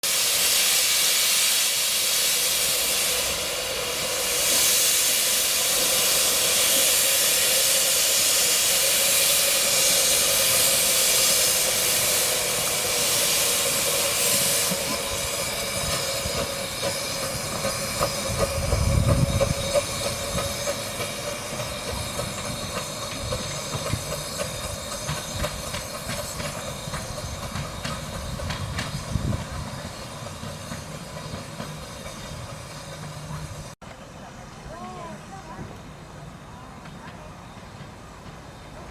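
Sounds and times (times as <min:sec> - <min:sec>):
steam locomotive hissing steam: 0:00.0 - 0:38.9
train clicking and clatter: 0:00.0 - 0:38.9.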